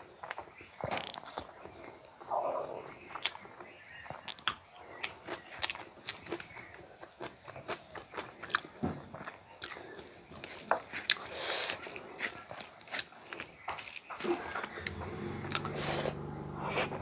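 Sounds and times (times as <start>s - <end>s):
mouth chewing food: 0.0s - 17.0s.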